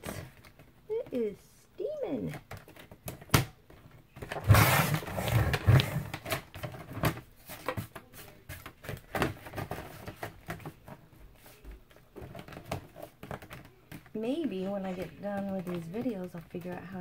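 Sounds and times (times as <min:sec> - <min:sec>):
cardboard taps and rustling: 0:02.3 - 0:17.0.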